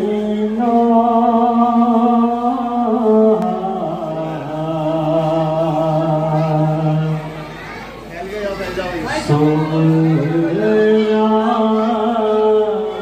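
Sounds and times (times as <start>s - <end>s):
man chanting a lament: 0.0s - 7.3s, 9.1s - 13.0s.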